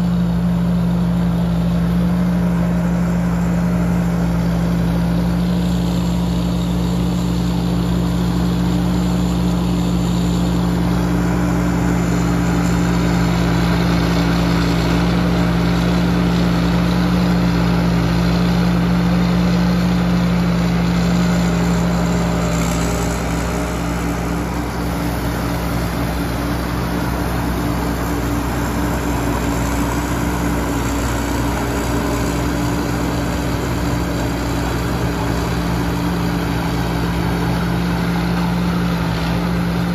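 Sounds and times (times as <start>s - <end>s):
harvester engine hum: 0.0s - 39.9s.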